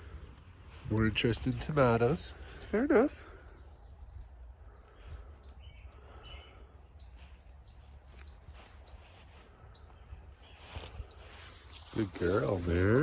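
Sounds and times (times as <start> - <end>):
bird chirping: 1.1 - 13.0.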